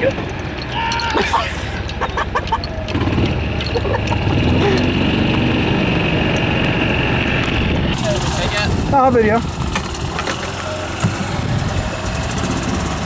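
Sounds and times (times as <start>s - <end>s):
golf cart low rumble: 0.0s - 13.0s.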